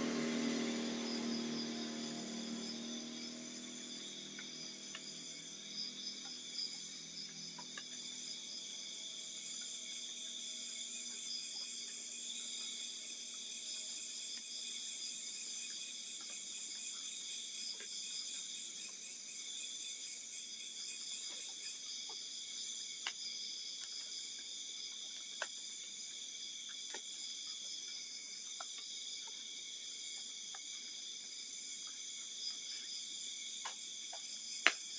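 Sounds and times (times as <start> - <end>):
insects chirring: 0.0 - 34.9.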